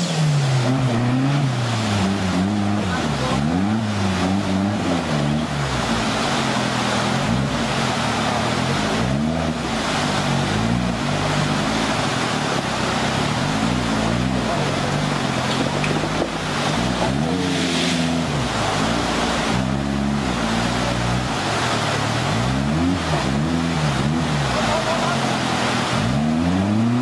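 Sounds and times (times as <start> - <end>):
off-road vehicle engine revving: 0.0 - 27.0
water rushing: 0.0 - 27.0.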